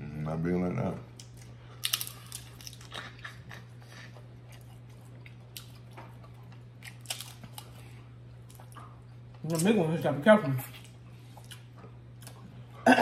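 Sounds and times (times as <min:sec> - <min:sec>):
steady low hum: 0:00.0 - 0:13.0
chewing: 0:01.2 - 0:09.7, 0:10.6 - 0:12.8.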